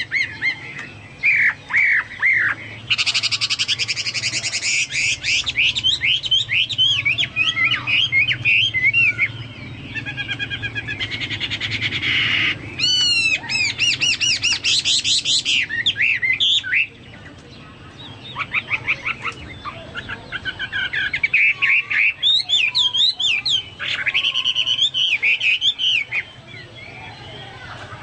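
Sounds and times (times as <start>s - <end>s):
bird singing whistled notes: 0.0s - 17.2s, 18.1s - 27.8s.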